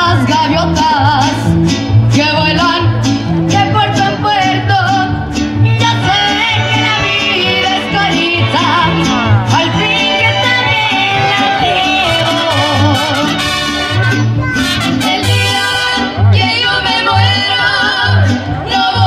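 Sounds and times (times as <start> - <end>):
woman singing: 0.0 - 1.5, 2.1 - 13.6, 14.8 - 19.0
mariachi band playing: 0.0 - 19.0.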